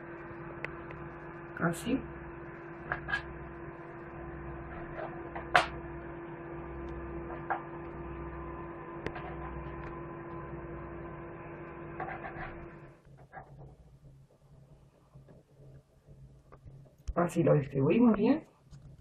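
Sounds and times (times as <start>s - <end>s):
microwave oven humming: 0.0s - 17.2s.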